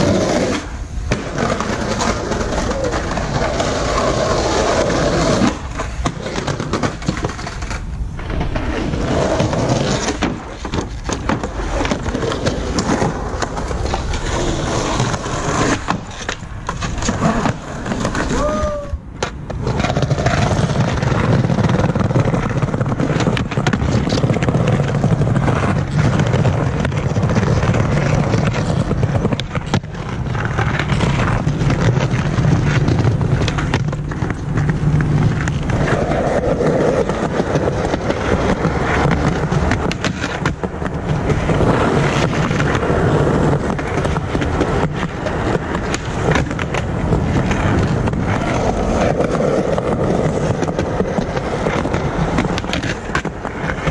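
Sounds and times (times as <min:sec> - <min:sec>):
skateboard clicks and knocks: 0:00.0 - 0:53.9
skateboard wheels rolling on paving: 0:00.0 - 0:53.9.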